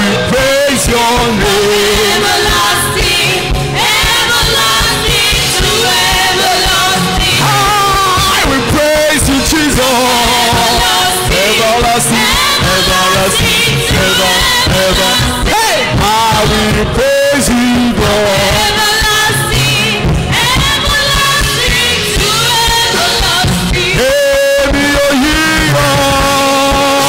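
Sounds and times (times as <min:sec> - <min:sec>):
man singing into microphone: 0:00.0 - 0:03.1, 0:05.6 - 0:20.0, 0:21.6 - 0:27.0
drums: 0:00.0 - 0:27.0
keyboard: 0:00.0 - 0:27.0
women backing singers: 0:00.0 - 0:27.0.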